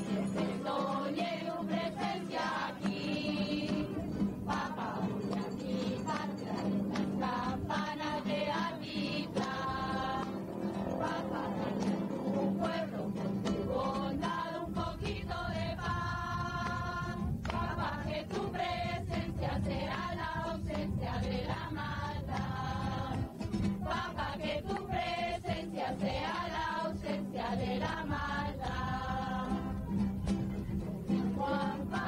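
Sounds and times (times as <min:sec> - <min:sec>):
choir singing slow song: 0:00.0 - 0:30.4, 0:31.0 - 0:32.0.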